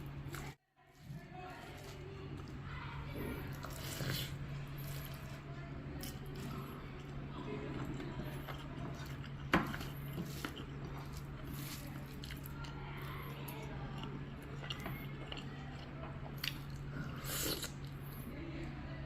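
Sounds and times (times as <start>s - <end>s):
low steady hum: 0.0s - 19.0s
wet chewing of food: 1.4s - 18.3s.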